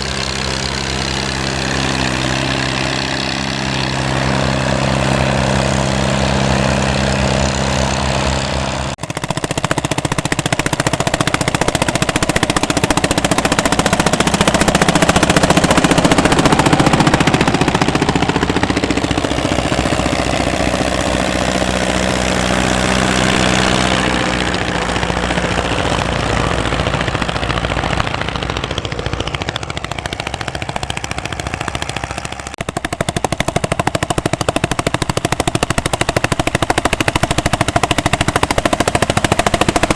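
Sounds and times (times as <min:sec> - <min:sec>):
sharp popping exhaust beat: 0:00.0 - 0:39.9
tractor engines working: 0:00.0 - 0:39.9.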